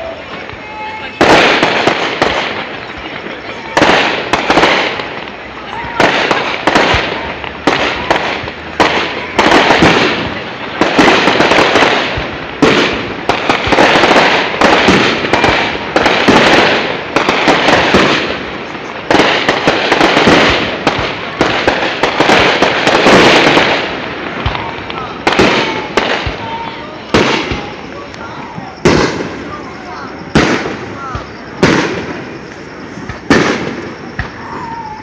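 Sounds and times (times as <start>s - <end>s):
firework shells bursting: 0.0s - 35.0s
sharp crackling: 0.0s - 35.0s.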